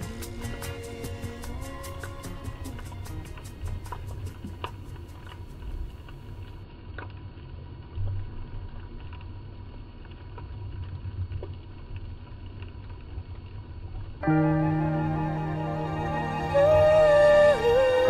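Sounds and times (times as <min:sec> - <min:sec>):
underwater low rumble: 0:00.0 - 0:18.0.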